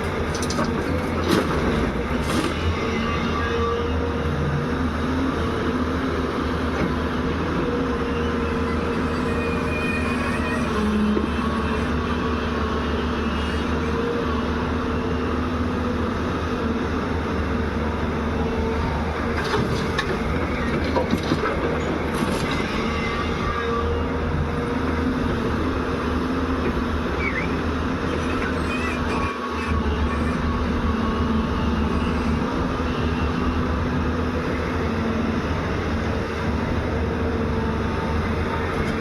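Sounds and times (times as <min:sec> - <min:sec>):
excavator diesel engine droning: 0:00.0 - 0:39.0.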